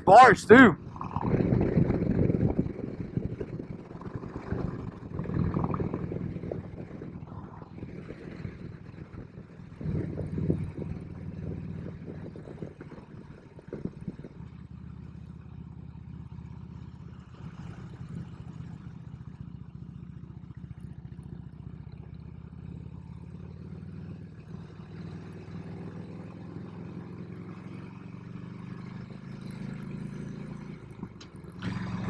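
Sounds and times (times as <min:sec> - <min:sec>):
motorcycle engine running: 0:00.7 - 0:32.0.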